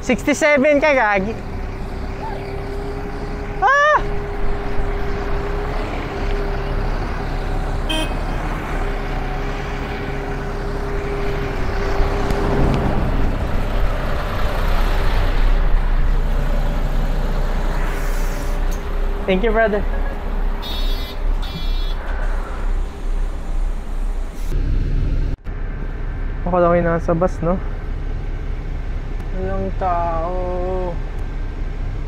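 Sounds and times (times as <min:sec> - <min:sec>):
bus engine hum: 0:00.0 - 0:32.0
street traffic: 0:00.0 - 0:32.0.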